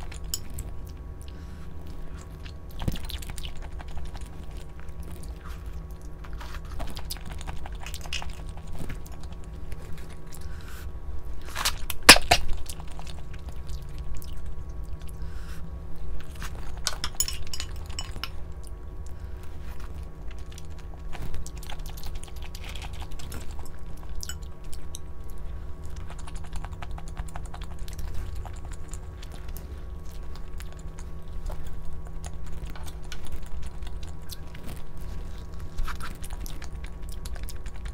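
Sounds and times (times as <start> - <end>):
chewing: 0.0 - 37.9.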